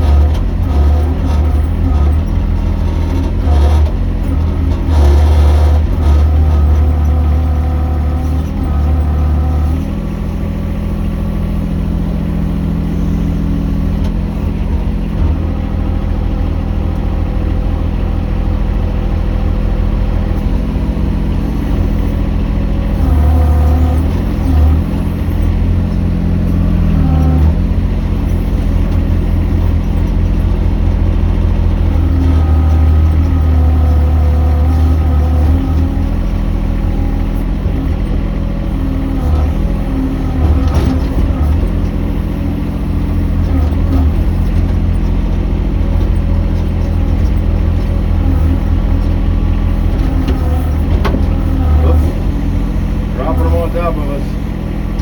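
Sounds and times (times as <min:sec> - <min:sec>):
mini excavator engine running: 0:00.0 - 0:55.0.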